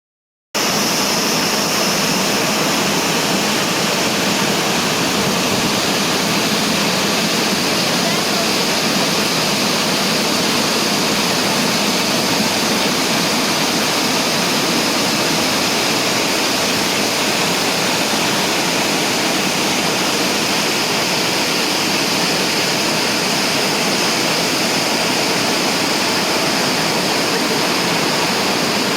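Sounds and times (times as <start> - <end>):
waterfall rushing: 0.6 - 28.9.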